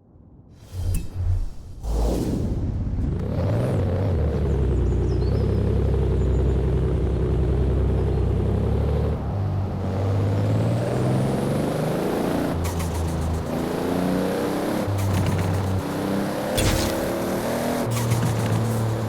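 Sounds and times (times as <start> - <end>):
car engine revving: 2.5 - 19.0.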